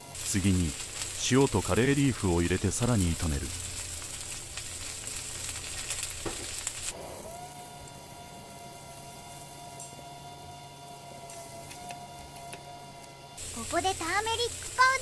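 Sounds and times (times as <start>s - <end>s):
cabbage sizzling in a frying pan: 0.0s - 12.4s, 13.4s - 15.0s.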